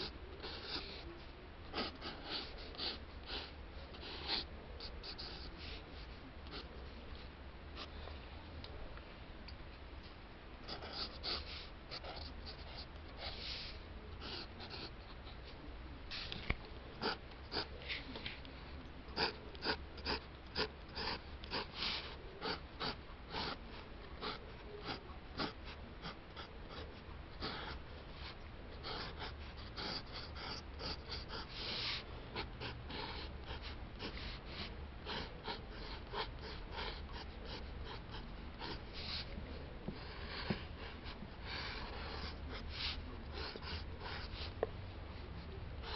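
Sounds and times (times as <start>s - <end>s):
pencil scratching on paper: 0.0s - 1.1s, 1.7s - 6.7s, 10.7s - 15.5s, 16.9s - 18.4s, 19.1s - 44.6s.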